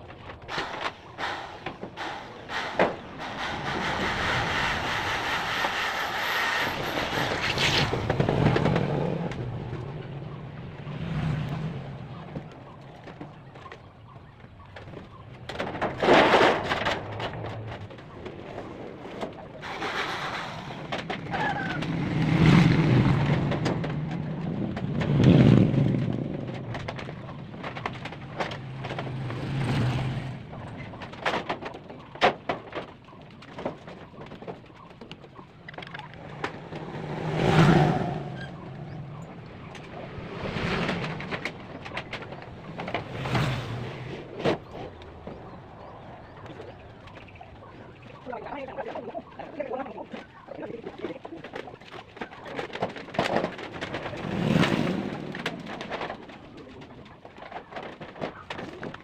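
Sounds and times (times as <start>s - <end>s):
metal roofing sheets rumbling and rattling: 0.0s - 59.0s.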